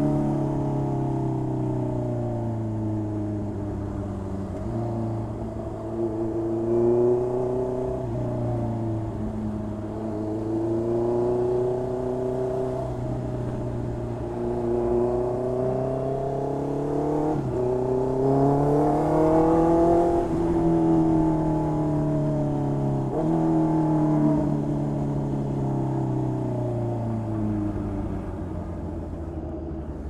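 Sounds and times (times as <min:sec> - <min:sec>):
motorcycle engine accelerating: 0:00.0 - 0:26.4.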